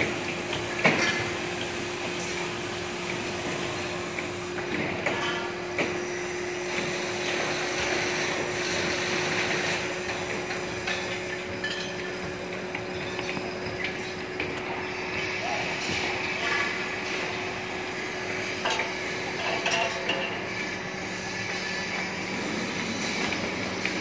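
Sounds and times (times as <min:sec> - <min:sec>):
heavy machinery engines droning: 0:00.0 - 0:24.0.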